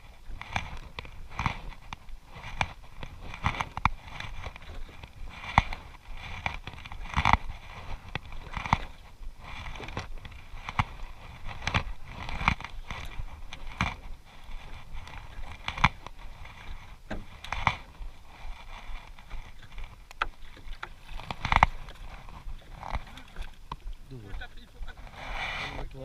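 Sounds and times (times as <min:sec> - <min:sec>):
rumble of wind and water: 0:00.0 - 0:26.0.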